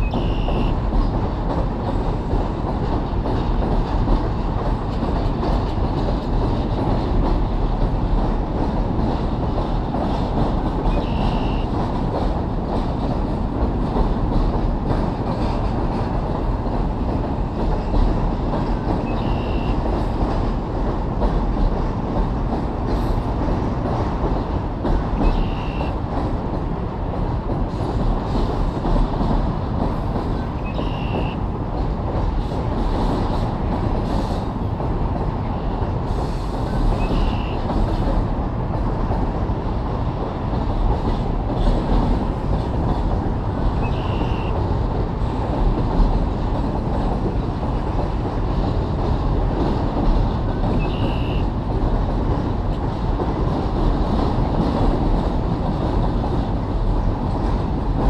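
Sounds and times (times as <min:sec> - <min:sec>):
train wheels rumbling on bridge: 0:00.0 - 0:58.0.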